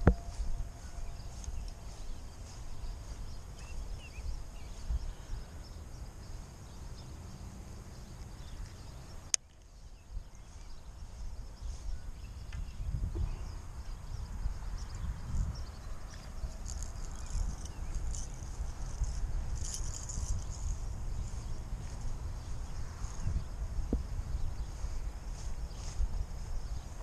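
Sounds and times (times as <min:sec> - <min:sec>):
wind buffeting microphone: 0:00.0 - 0:06.8, 0:09.8 - 0:27.0.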